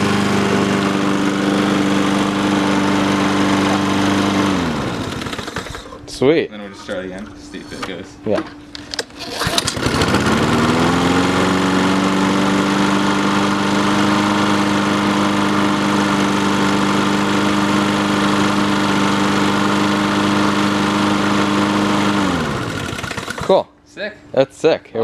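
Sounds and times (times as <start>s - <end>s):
lawnmower engine running: 0.0s - 6.0s, 9.0s - 23.6s.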